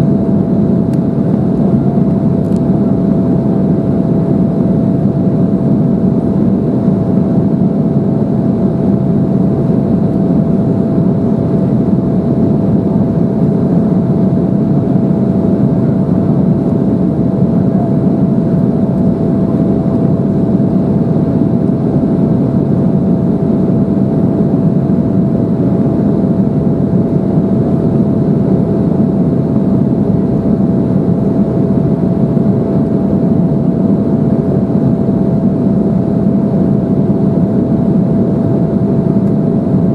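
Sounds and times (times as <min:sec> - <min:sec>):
airliner cabin engine hum: 0:00.0 - 0:39.9.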